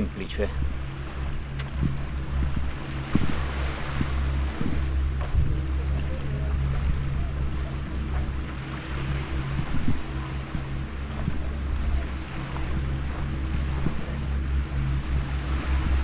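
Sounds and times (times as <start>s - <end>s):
steady low drone: 0.0s - 16.0s
surf: 0.0s - 16.0s
wind on microphone: 0.0s - 16.0s.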